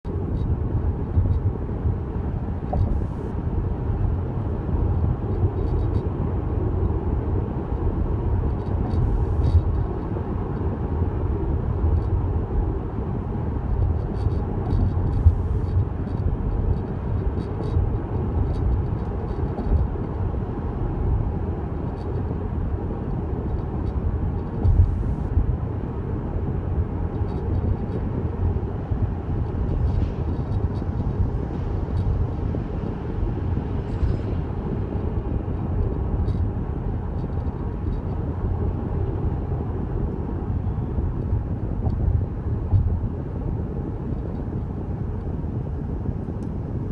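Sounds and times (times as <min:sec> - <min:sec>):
car cabin road rumble: 0:00.1 - 0:46.9.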